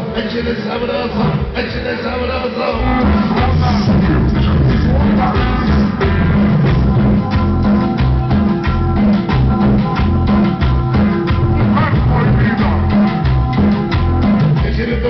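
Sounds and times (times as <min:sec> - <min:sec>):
loud dance music: 0:00.0 - 0:15.0.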